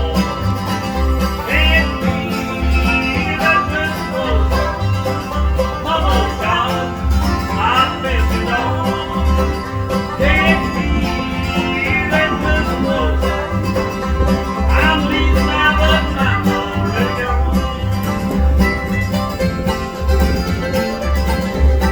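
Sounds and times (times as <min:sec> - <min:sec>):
banjo: 0:00.0 - 0:21.9
fiddle sliding lines: 0:00.0 - 0:21.9
guitar: 0:00.0 - 0:21.9
walking bass: 0:00.0 - 0:21.9.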